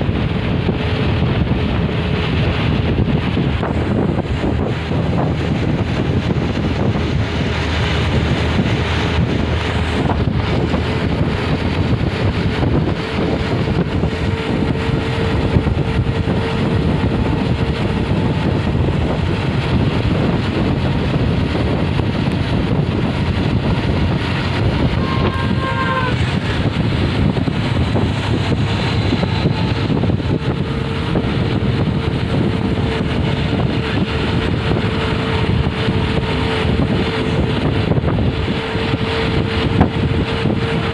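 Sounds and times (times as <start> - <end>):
bus engine rumble: 0.0 - 40.9
road noise: 0.0 - 40.9
wind buffeting microphone: 0.0 - 40.9.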